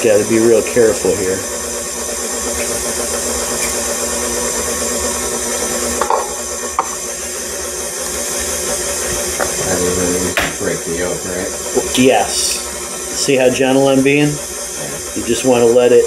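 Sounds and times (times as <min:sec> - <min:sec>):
stand mixer motor humming: 0:00.0 - 0:16.0.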